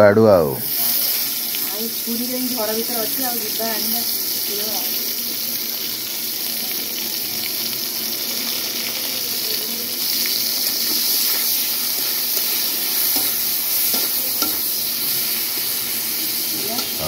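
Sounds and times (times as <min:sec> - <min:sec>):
hot oil sizzling: 0:00.4 - 0:17.0.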